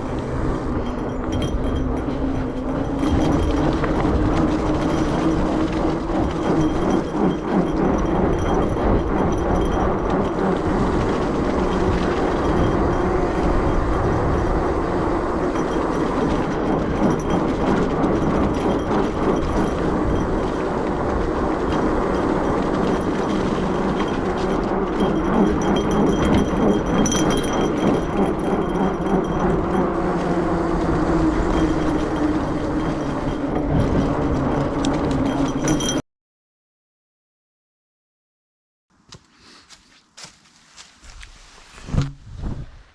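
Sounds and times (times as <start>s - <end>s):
bike tyres rolling on road: 0.0s - 35.9s
constant droning hum: 0.0s - 36.0s.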